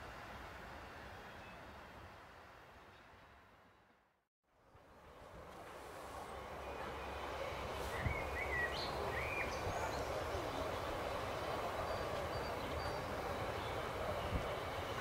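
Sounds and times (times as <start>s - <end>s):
distant diesel train rumble: 0.0s - 15.0s.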